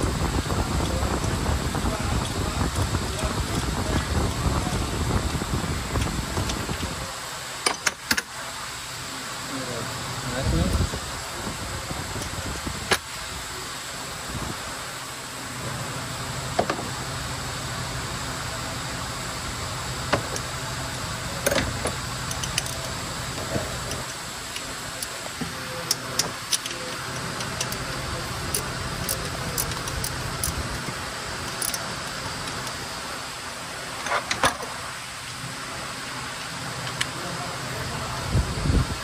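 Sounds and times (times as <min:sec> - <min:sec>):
low workshop hum: 0:00.0 - 0:39.0.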